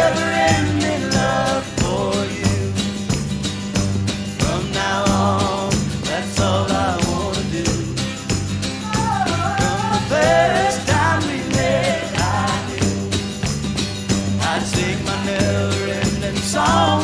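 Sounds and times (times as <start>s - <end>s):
pop song with voices singing: 0.0s - 17.0s.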